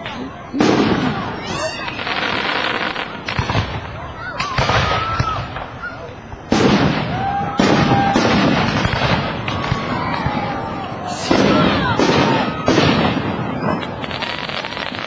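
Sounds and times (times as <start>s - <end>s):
fireworks bursting with crackle: 0.0s - 15.0s.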